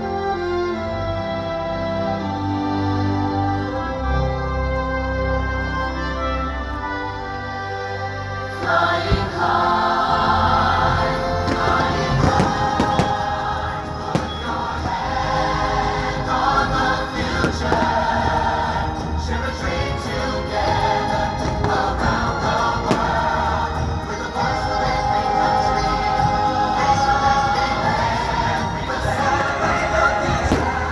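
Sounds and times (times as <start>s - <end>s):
orchestral music with choir: 0.0s - 30.9s.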